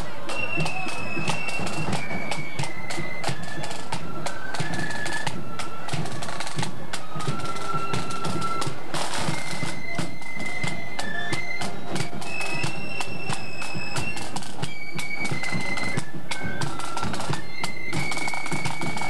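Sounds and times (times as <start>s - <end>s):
flute melody: 0.0s - 19.0s
side drum and bass drum beats: 0.0s - 19.0s.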